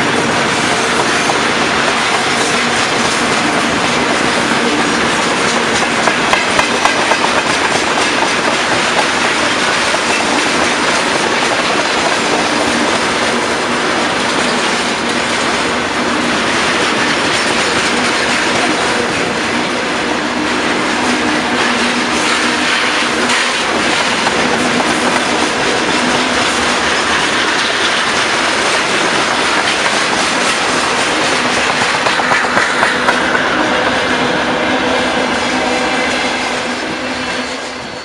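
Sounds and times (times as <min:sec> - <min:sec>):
wheels clattering over rail joints: 0:00.0 - 0:19.5, 0:20.9 - 0:33.6
freight train rumbling past: 0:00.0 - 0:38.0.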